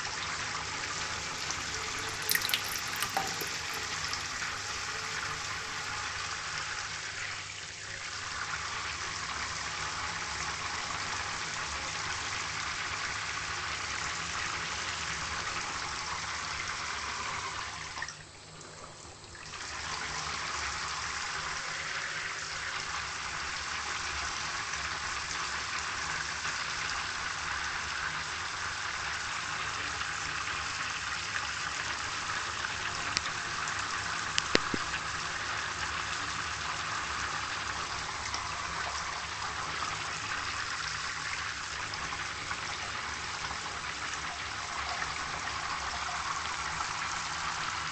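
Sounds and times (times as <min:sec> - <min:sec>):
water running from tap: 0:00.0 - 0:18.2, 0:19.3 - 0:47.9.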